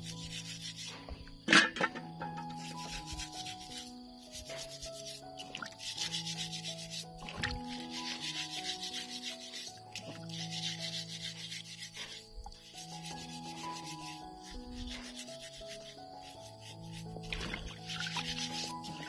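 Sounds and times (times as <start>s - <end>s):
background music: 0.0s - 19.0s
wire pad scrubbing: 2.5s - 19.0s.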